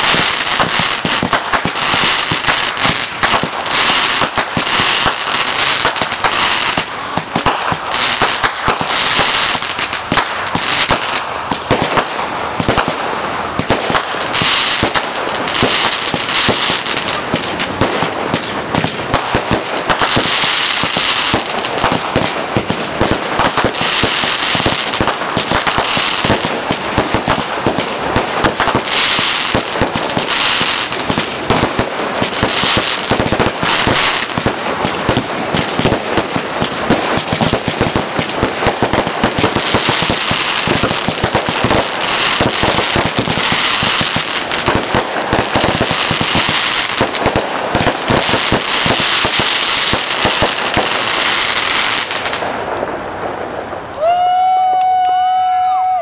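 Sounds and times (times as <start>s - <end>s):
fireworks shots bursting: 0.0s - 54.1s
fireworks hiss: 0.0s - 54.4s.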